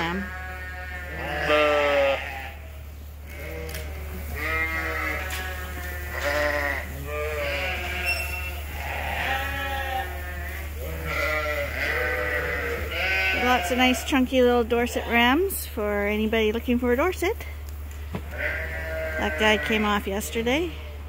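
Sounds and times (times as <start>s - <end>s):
lambs bleating: 0.0s - 15.7s, 18.2s - 21.0s
steady low hum: 0.0s - 21.0s.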